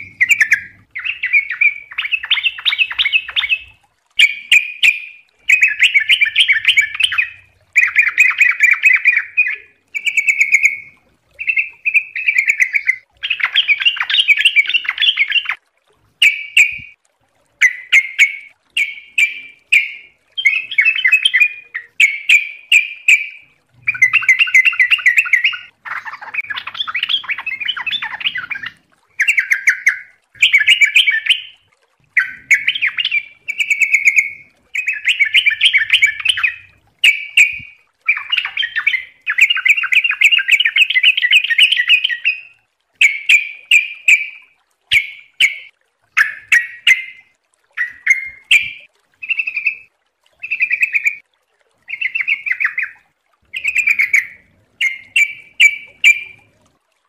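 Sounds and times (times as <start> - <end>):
bulbul warbling song: 0.0 - 51.2, 51.8 - 56.7.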